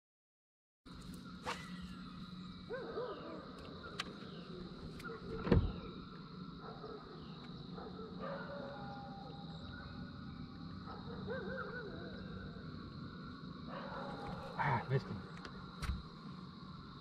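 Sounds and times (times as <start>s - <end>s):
trolling motor electric hum: 0.9s - 17.0s.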